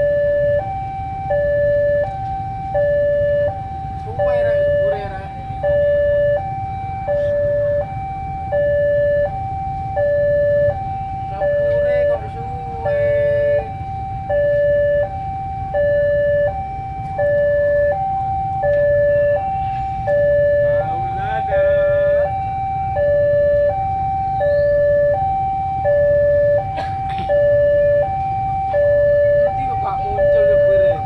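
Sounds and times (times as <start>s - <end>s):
level crossing two-tone alarm: 0.0s - 31.0s
low street rumble: 0.0s - 31.0s.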